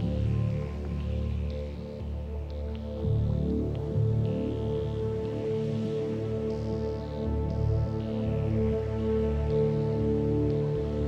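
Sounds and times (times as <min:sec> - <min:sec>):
slow sustained background music: 0:00.0 - 0:11.0.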